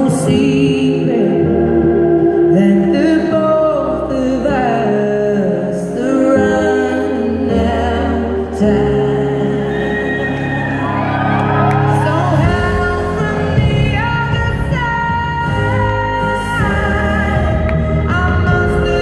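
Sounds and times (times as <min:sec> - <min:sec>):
woman singing a slow ballad: 0:00.0 - 0:19.0.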